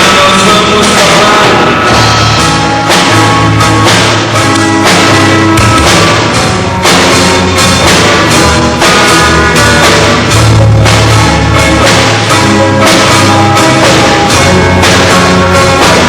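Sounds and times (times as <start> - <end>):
drum kit beat: 0.0 - 16.0
rock band playing loudly: 0.0 - 16.0.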